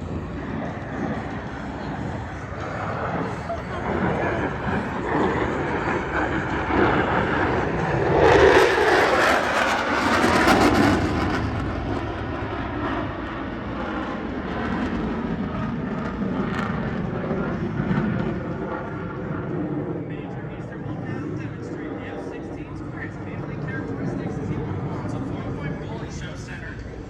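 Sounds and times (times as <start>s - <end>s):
fighter jet engine roaring past: 0.0s - 27.0s.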